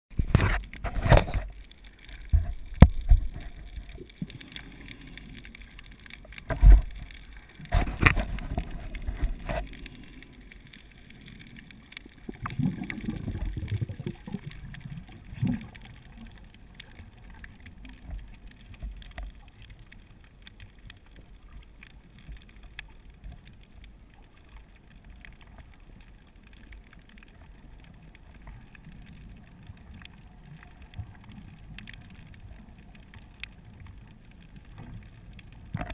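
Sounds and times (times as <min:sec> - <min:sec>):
underwater exhaled bubbles rumbling: 0:00.1 - 0:35.9.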